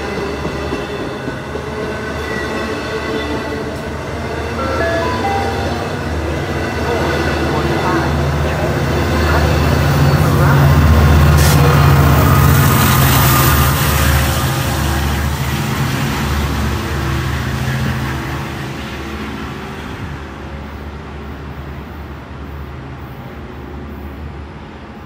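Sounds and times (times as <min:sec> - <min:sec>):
diesel locomotive engine drone: 0:00.0 - 0:25.0
train rail noise: 0:00.0 - 0:25.0.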